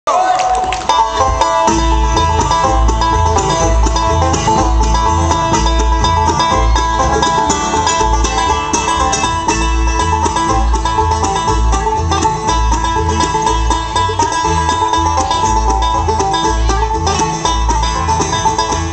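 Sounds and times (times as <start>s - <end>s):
bluegrass band playing: 0.1s - 18.9s.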